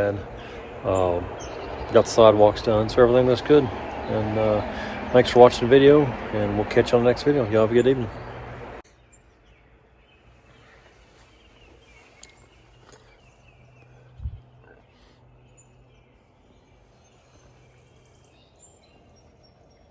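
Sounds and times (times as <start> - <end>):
bird chirps: 0.0 - 5.5, 7.3 - 19.9
low hum: 0.0 - 19.7.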